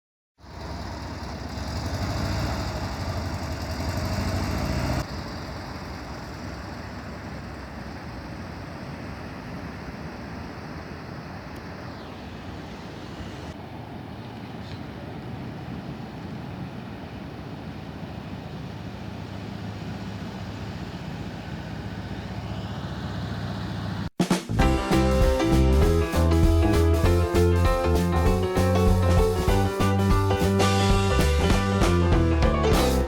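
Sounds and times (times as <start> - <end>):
vehicle engine running: 0.4 - 11.7, 17.4 - 33.0
road noise: 0.4 - 33.0.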